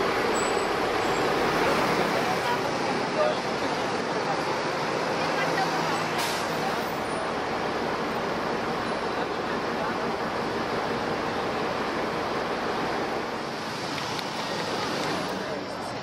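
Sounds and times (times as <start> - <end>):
city traffic: 0.0 - 16.0.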